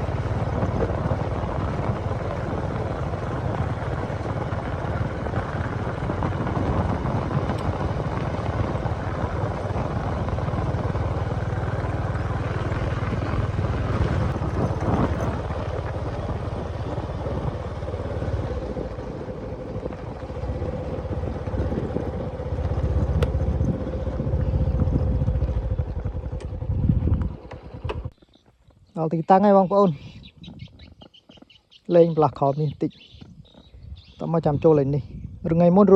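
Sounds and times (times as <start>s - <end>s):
vehicle engine rumbling: 0.0s - 35.9s.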